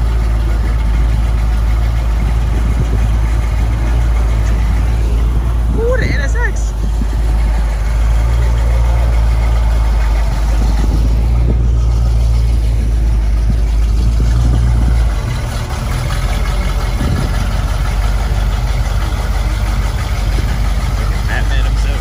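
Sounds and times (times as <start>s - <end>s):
car engine deep rumble: 0.0s - 22.0s.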